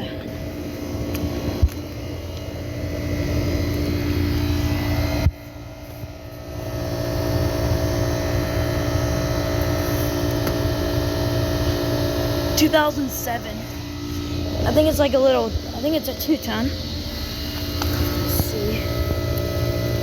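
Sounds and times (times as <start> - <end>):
air conditioner compressor hum: 0.0 - 20.0
condenser fan running: 0.0 - 20.0.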